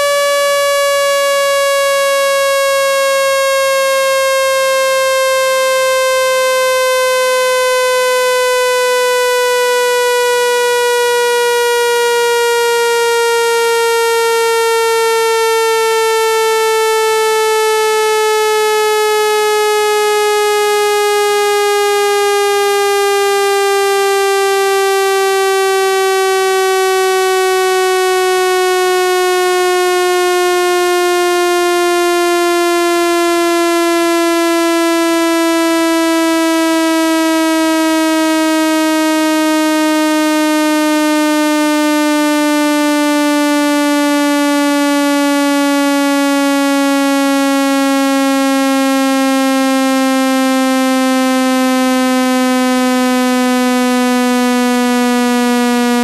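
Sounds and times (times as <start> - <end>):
buzzy synthesized tone sliding down: 0.0 - 56.0.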